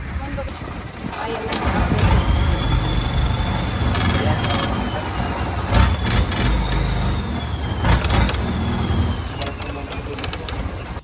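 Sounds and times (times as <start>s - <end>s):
motorboat engine rumbling: 0.0s - 11.0s.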